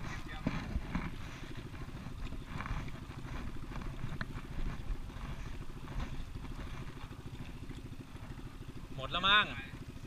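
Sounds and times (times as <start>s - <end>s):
boat engine chugging at idle: 0.0s - 10.0s.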